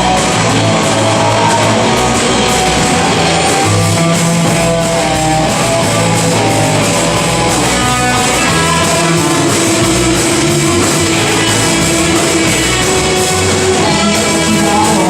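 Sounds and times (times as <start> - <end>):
bass: 0.0 - 15.0
distorted electric guitar: 0.0 - 15.0
drums: 0.0 - 15.0.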